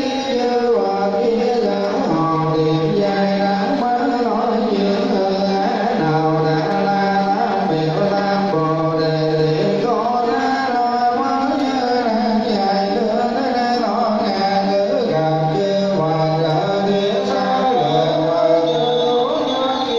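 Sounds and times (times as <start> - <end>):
group chanting: 0.0 - 19.9.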